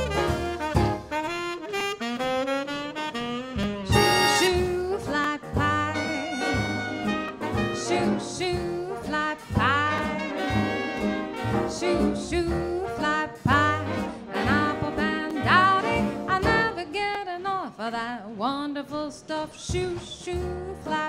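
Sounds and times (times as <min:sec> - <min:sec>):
big band swing music: 0:00.0 - 0:18.0, 0:18.9 - 0:21.0.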